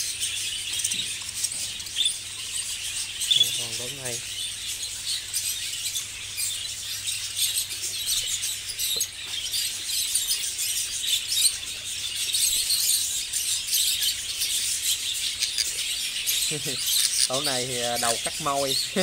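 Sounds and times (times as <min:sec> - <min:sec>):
flock of budgerigars chattering: 0:00.0 - 0:19.0.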